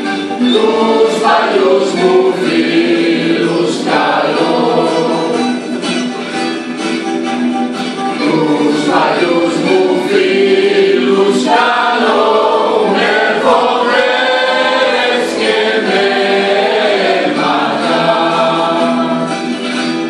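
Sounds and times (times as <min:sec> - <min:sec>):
mixed choir singing: 0:00.3 - 0:05.6, 0:08.2 - 0:19.6.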